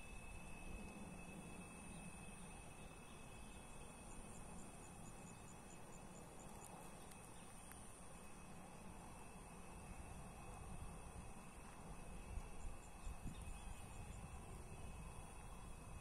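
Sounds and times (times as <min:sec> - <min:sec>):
high insect whine: 0:00.0 - 0:16.0
rapid high insect chirps: 0:00.0 - 0:16.0.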